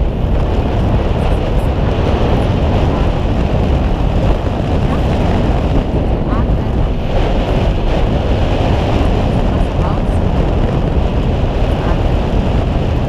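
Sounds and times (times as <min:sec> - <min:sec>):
boat engine: 0:00.0 - 0:13.0
wind buffeting microphone: 0:00.0 - 0:13.0.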